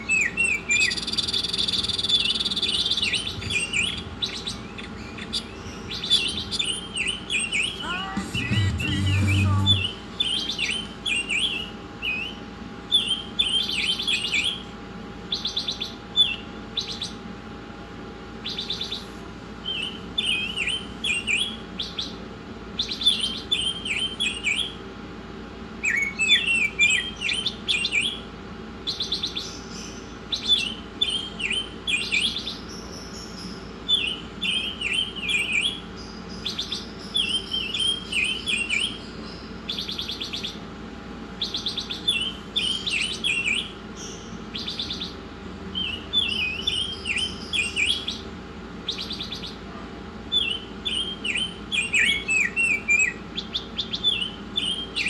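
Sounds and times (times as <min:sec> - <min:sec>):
faint steady hum: 0:00.0 - 0:55.0
songbird chirping and trilling: 0:00.0 - 0:55.0.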